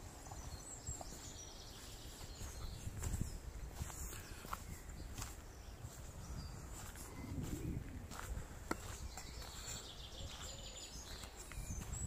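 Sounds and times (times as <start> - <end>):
faint birdsong: 0.0 - 12.0
footsteps on dirt: 0.0 - 12.0.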